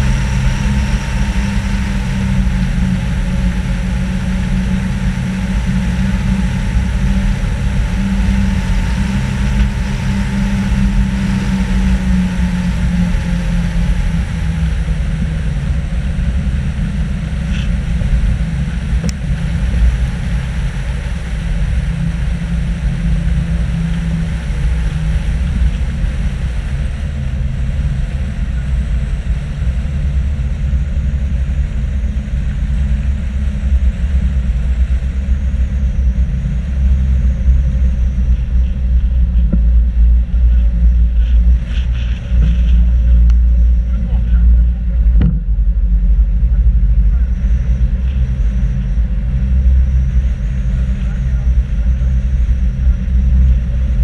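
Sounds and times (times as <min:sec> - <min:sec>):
car engine drone: 0:00.0 - 0:54.0.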